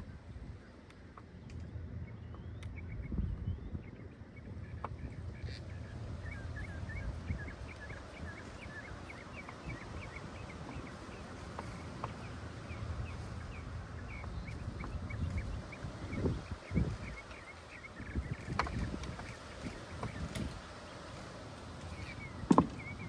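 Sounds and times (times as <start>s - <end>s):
low outdoor rumble: 0.0s - 23.0s
small birds chirping: 0.0s - 23.0s.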